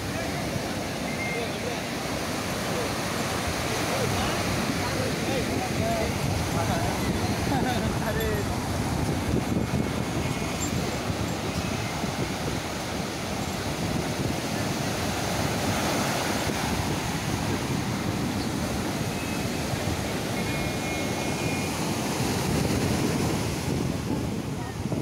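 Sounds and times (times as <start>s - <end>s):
surf breaking on beach: 0.0s - 25.0s
wind on microphone: 0.0s - 25.0s.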